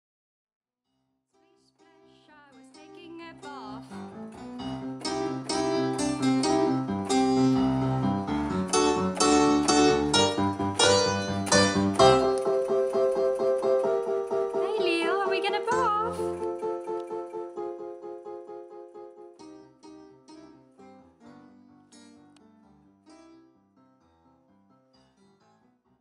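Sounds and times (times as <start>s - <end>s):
electronic keyboard piano melody: 2.6s - 25.2s.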